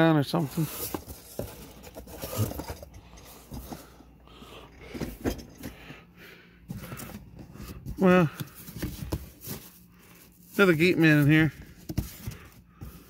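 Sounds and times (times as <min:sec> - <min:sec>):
cardboard boxes scraping and rustling: 0:00.3 - 0:05.9, 0:06.6 - 0:13.0.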